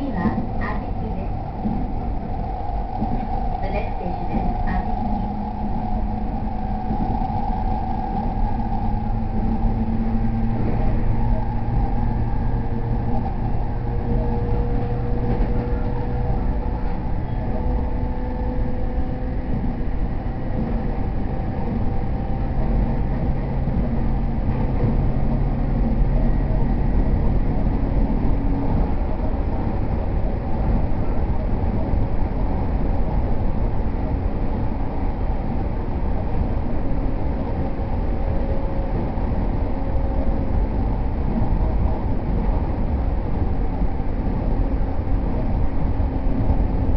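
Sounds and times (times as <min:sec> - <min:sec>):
faint humming tones: 0:00.0 - 0:46.9
train wheels rumbling on rail: 0:00.0 - 0:46.9.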